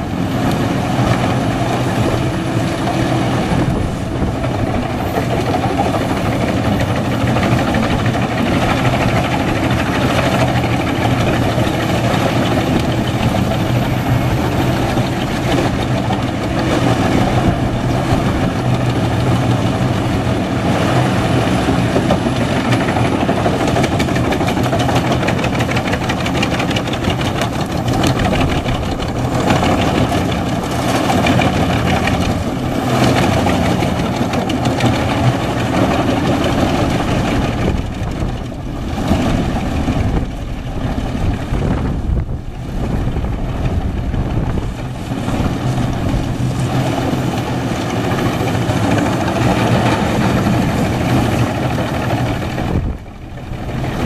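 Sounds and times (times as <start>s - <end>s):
wood chipper engine running: 0.0s - 54.0s.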